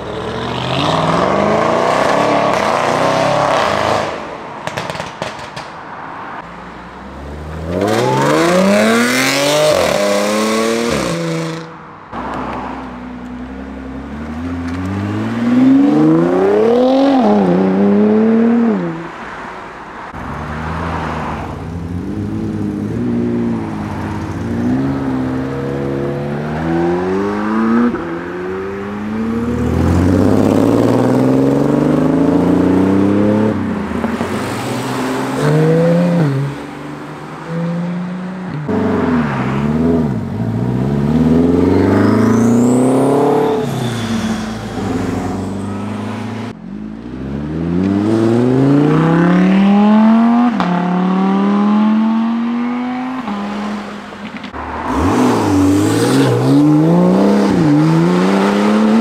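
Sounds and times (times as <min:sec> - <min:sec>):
cars accelerating hard: 0:00.0 - 0:05.0, 0:07.0 - 0:12.9, 0:13.5 - 0:19.5, 0:20.1 - 0:59.0.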